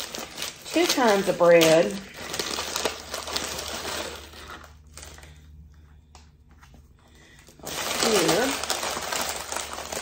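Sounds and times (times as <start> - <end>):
paper bag crinkling: 0.0 - 5.5, 7.2 - 10.0.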